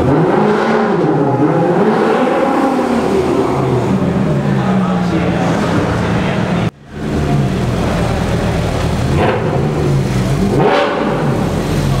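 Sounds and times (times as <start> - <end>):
car engine revving: 0.0 - 12.0
sports car engines running: 0.0 - 12.0.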